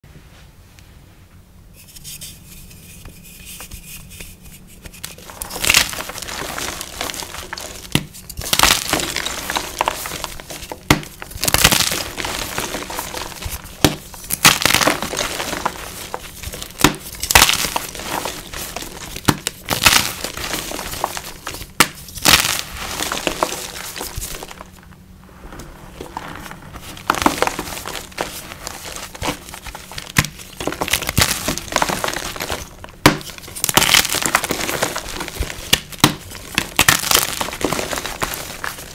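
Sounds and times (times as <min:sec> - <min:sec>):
powdery crumbling: 0:04.9 - 0:38.9
crispy blocks crunching: 0:05.1 - 0:38.9.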